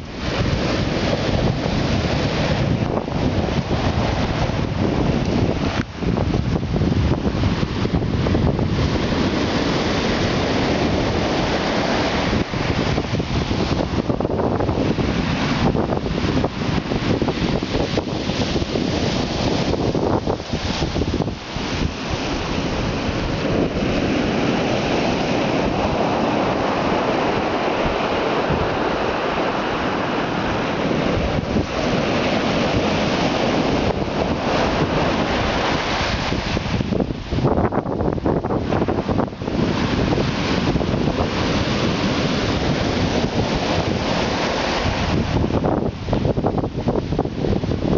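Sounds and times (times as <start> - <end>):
surf breaking on shore: 0.0 - 47.9
wind buffeting microphone: 0.0 - 47.9.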